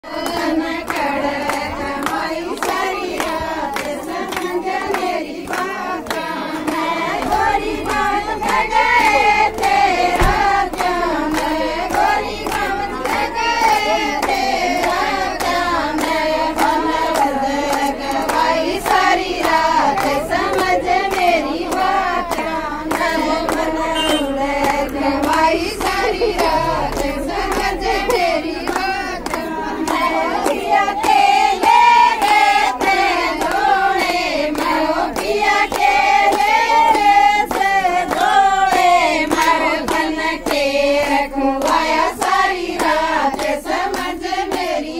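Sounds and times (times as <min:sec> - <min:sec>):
rhythmic hand clapping: 0:00.0 - 0:44.9
women singing folk song: 0:00.0 - 0:44.9.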